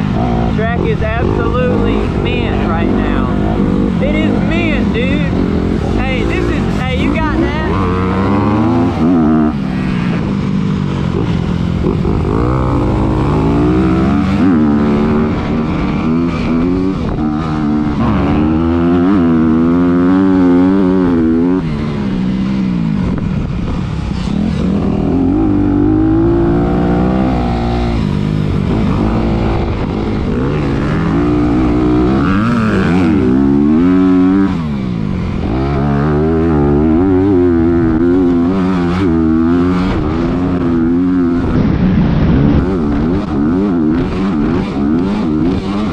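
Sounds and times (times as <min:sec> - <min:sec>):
dirt bike engine revving: 0:00.0 - 0:45.9
second dirt bike engine: 0:00.0 - 0:45.9.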